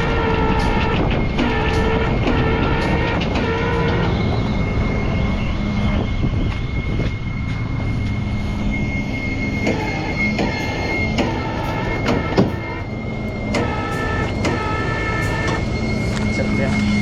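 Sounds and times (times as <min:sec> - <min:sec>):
diesel engine running: 0:00.0 - 0:17.0
truck warning beeper: 0:00.0 - 0:17.0.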